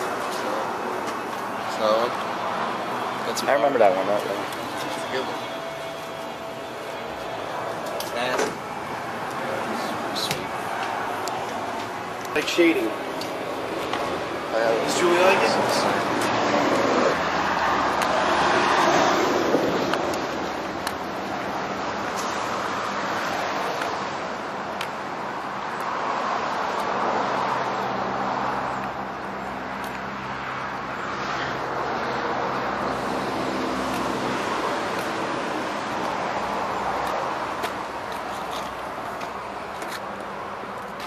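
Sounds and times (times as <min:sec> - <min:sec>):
passing vehicles rushing: 0:00.0 - 0:41.0.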